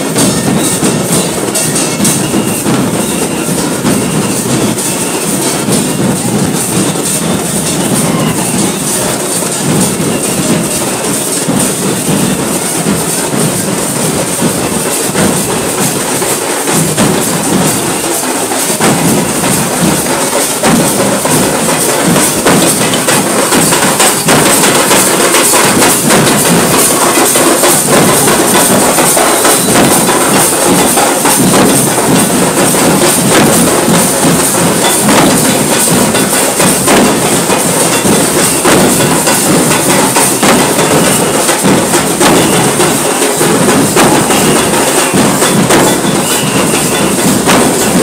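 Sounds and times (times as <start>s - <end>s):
drums beaten with sticks: 0.0s - 48.0s.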